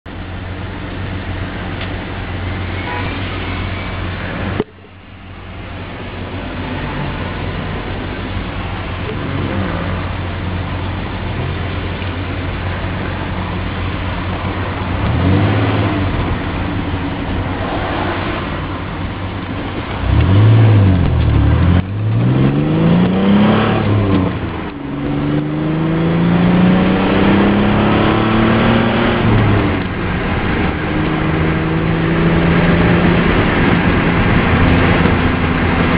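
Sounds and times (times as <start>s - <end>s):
car engine revving: 0.2s - 35.9s.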